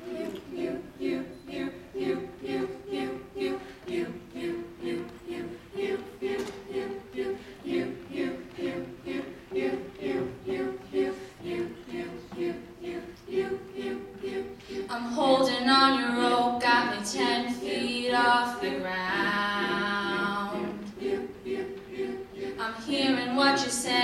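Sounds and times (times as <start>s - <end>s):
a cappella group singing: 0.0s - 24.0s.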